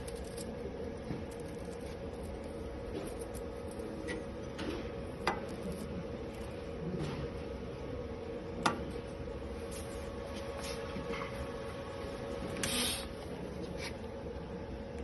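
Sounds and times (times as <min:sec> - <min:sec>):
welding machine electrical hum: 0:00.0 - 0:15.0.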